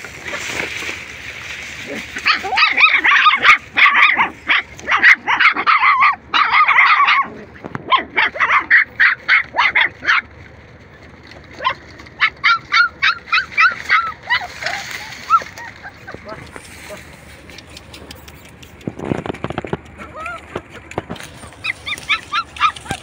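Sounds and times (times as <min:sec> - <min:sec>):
puppies yelping: 0:00.0 - 0:23.0.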